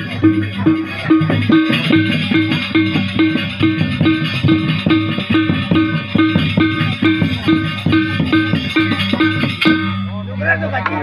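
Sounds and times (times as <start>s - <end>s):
busy percussion: 0.0s - 11.0s
ringing struck metal tones: 0.0s - 11.0s.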